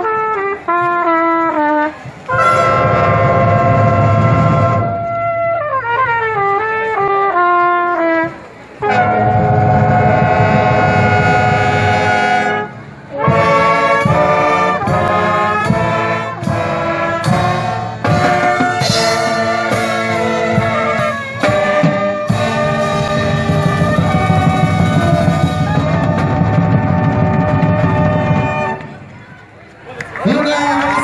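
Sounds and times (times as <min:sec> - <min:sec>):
drums: 0:00.0 - 0:29.1
marching band brass chords: 0:00.0 - 0:29.5.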